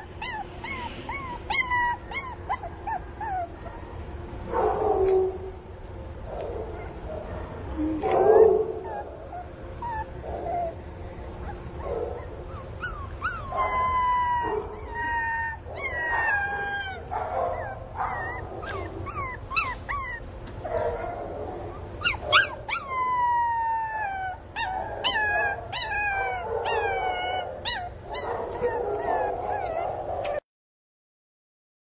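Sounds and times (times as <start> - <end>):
puppy whining and yelping: 0.0 - 4.1, 6.6 - 30.4.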